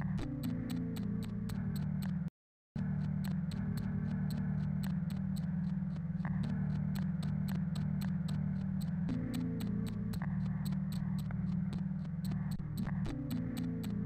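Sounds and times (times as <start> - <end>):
light repeating clicks: 0.0 - 14.0.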